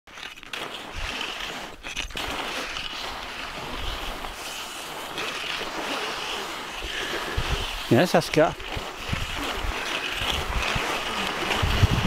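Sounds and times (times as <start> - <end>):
skis hissing on snow: 0.3 - 12.0.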